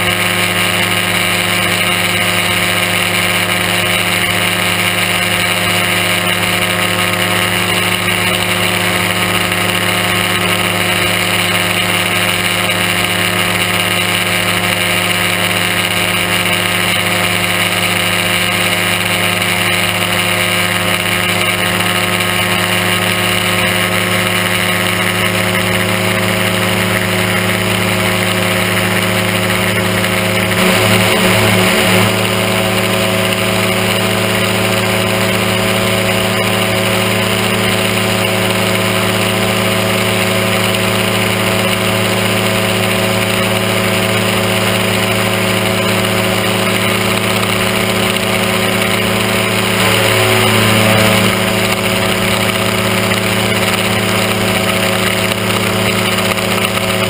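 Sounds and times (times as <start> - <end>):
aircraft engine running: 0.0 - 57.0.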